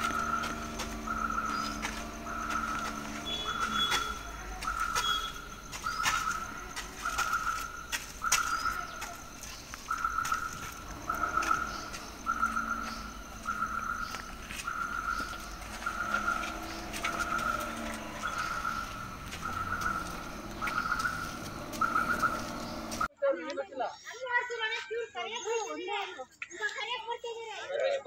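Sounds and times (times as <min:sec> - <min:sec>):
bird chirps: 0:00.0 - 0:23.1
vehicle reversing alarm beeping: 0:00.0 - 0:23.1.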